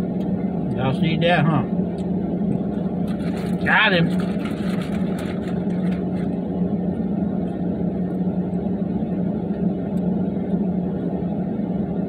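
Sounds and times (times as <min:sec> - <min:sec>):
truck engine idling: 0:00.0 - 0:11.7.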